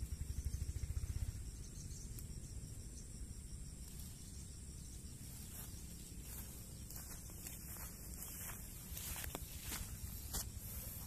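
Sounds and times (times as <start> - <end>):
insects chirring: 0.0 - 11.0
low pulsing rumble: 0.0 - 11.0.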